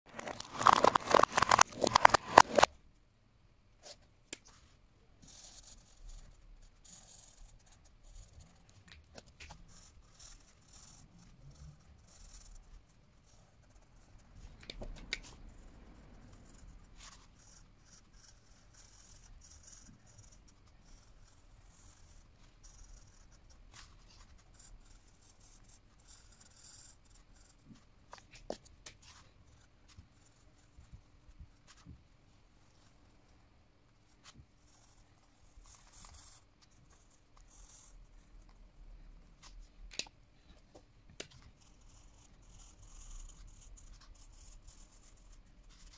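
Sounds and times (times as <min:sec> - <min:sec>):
marker scratching on paper: 0:00.6 - 0:02.7, 0:03.8 - 0:32.0, 0:34.1 - 0:38.5, 0:39.4 - 0:45.9.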